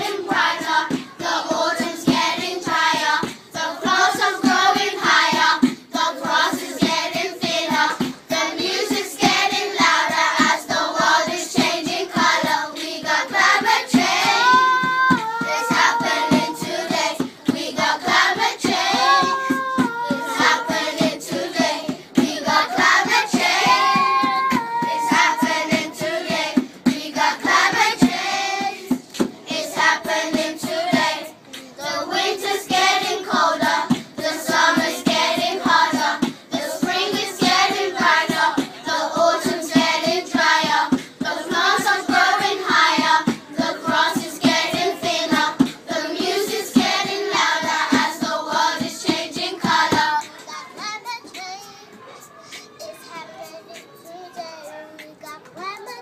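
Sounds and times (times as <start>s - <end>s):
children singing together: 0.0s - 56.0s
music with a steady beat: 0.0s - 56.0s.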